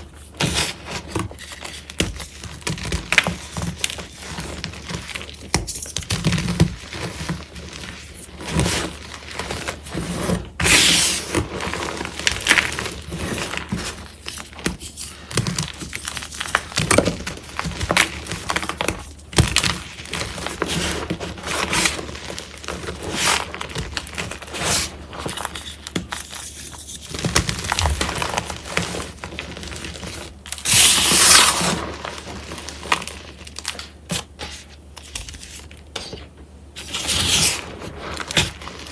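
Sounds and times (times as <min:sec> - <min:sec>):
chalk blocks crunching: 0:00.0 - 0:38.9.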